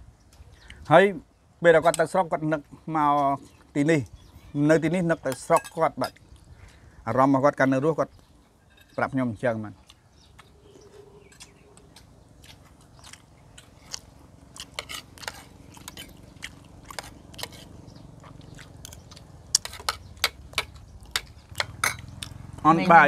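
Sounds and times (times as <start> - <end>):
people chewing and crunching food: 1.8 - 7.0, 9.8 - 23.0.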